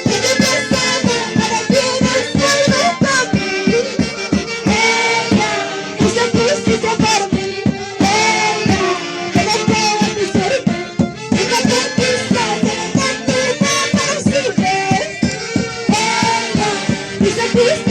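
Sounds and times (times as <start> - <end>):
folk dance music: 0.0 - 17.9.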